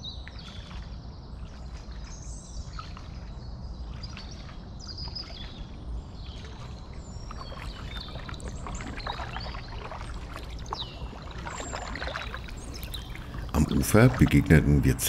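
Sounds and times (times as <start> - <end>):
birds chirping: 0.0 - 15.0
paddle splashing in water: 0.3 - 14.4.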